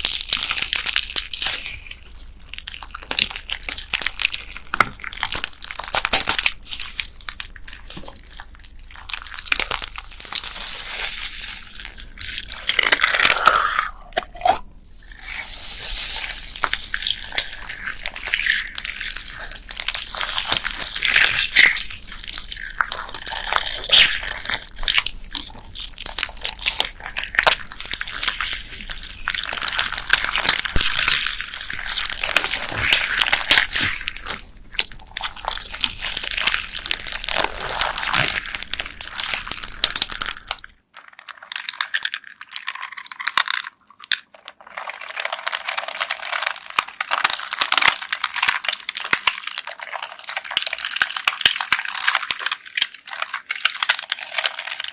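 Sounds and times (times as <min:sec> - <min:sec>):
beaded slime crackling: 0:00.0 - 0:54.9.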